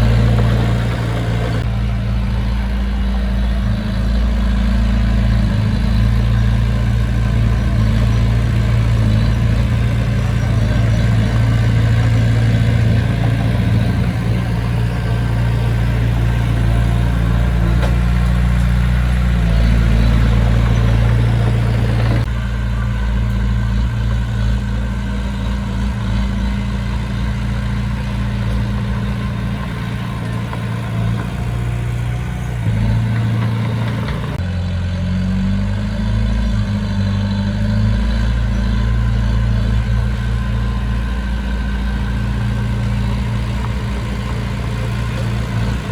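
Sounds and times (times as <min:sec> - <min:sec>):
heavy machinery engine rumbling: 0:00.0 - 0:45.9.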